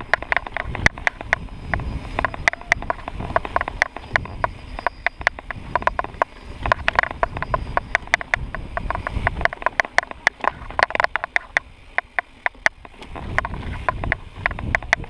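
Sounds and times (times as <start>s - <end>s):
mountain bike rattling: 0.0s - 15.0s.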